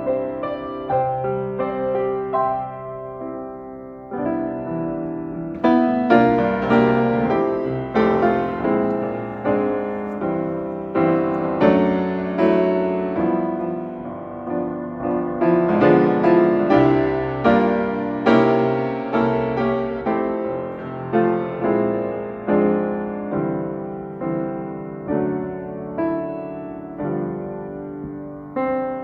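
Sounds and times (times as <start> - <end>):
slow piano chords: 0.0 - 29.0.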